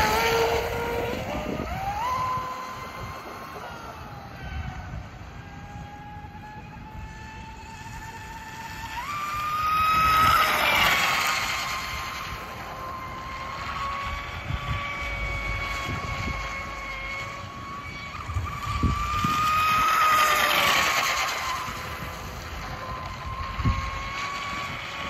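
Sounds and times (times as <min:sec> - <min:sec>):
electric motor and propeller whining: 0:00.0 - 0:25.0.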